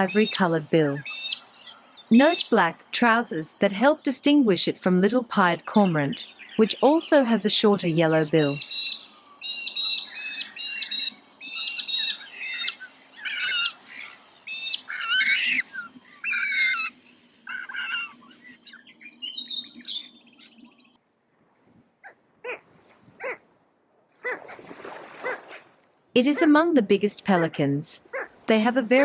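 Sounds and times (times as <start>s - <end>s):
birds chirping: 0.0s - 21.0s, 26.2s - 29.0s.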